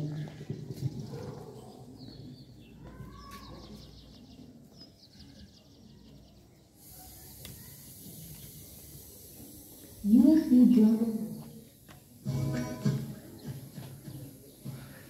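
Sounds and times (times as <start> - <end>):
small birds chirping: 0.1 - 12.2, 13.0 - 15.0.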